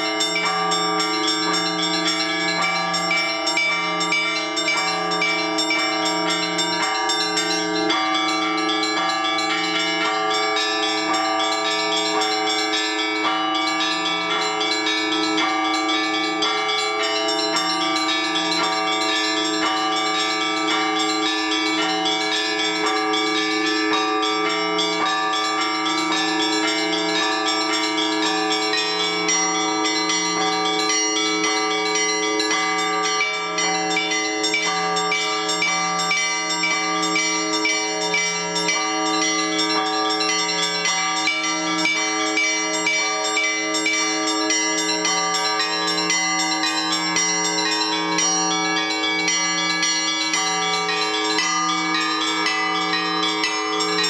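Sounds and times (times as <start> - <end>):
small church bells pealing: 0.0 - 54.0.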